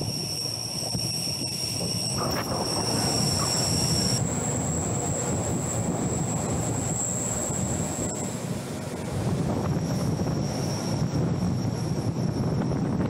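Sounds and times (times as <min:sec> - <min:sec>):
thin high whines: 0:00.0 - 0:13.0
train wheels rumbling on rails: 0:00.0 - 0:13.0.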